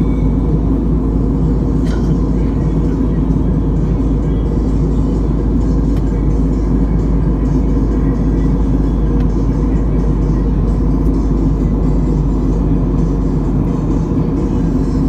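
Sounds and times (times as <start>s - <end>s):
jet engines droning: 0.0s - 15.0s.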